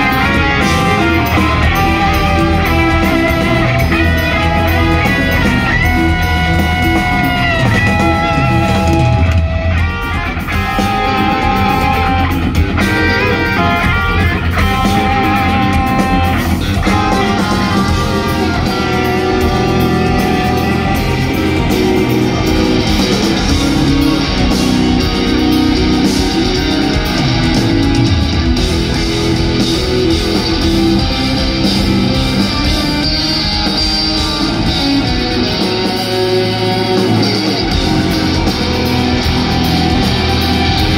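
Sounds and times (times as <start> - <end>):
drum kit: 0.0 - 40.9
electric guitars playing metal: 0.0 - 40.9.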